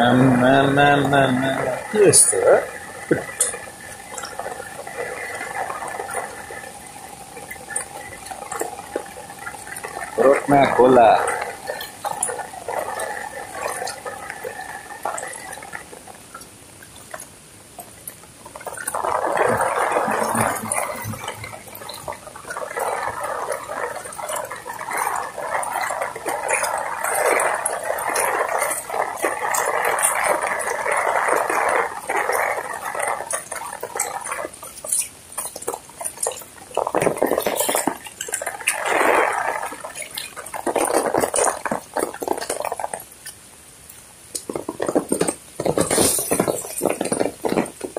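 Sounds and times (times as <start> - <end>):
floodwater rushing over road: 0.0 - 47.9.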